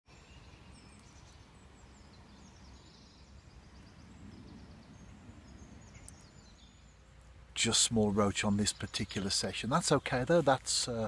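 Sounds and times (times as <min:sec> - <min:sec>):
songbirds chirping: 0:00.1 - 0:11.0
low steady rumble: 0:01.4 - 0:11.0.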